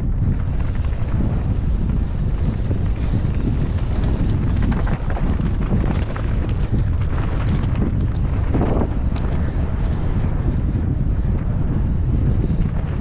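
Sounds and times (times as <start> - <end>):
heavy wind buffeting microphone: 0.0 - 13.0.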